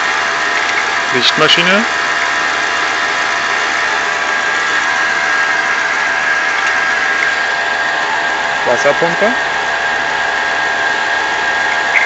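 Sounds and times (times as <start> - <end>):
engine mechanical whir: 0.0 - 12.0
high whine: 0.0 - 12.0.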